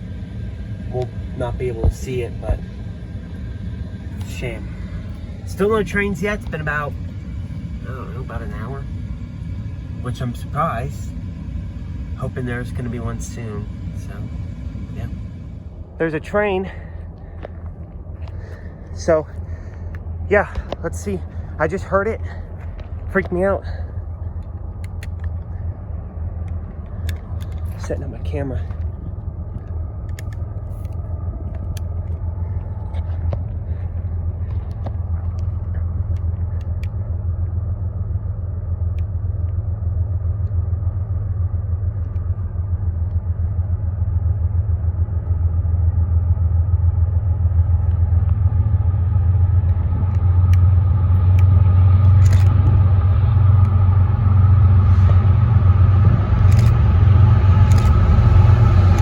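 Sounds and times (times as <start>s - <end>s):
diesel locomotive rumbling: 0.0s - 59.0s.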